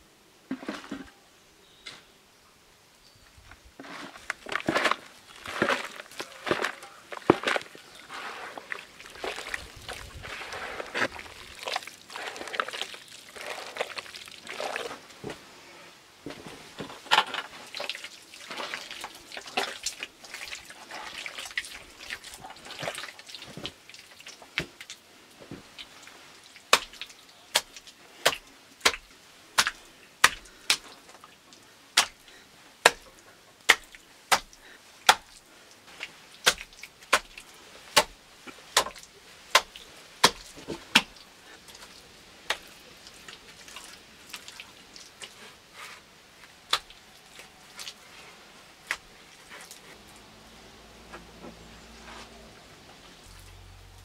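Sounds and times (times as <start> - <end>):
soft irregular hand tool noises: 3.2 - 50.2.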